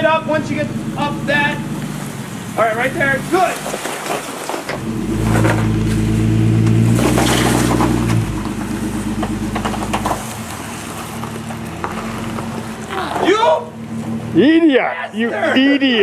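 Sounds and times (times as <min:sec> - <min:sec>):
engine pulling under load: 0:00.0 - 0:16.0.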